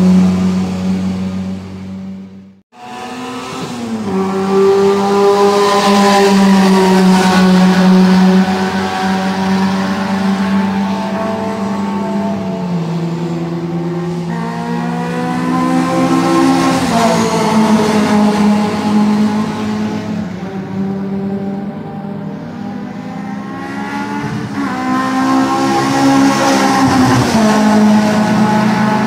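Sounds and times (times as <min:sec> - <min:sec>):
racing car engine at high revs: 0:00.0 - 0:29.0.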